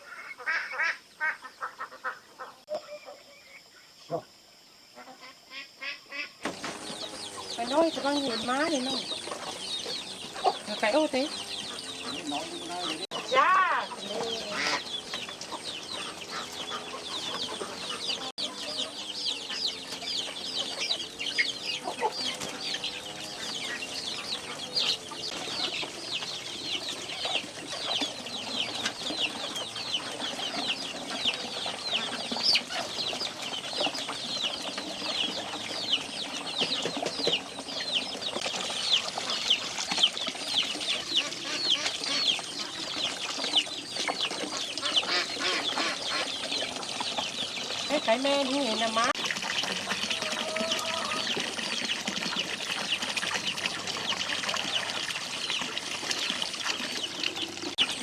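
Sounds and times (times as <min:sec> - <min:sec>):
hens clucking: 0:00.0 - 0:03.2, 0:05.0 - 0:58.0
chicks peeping: 0:04.9 - 0:58.0.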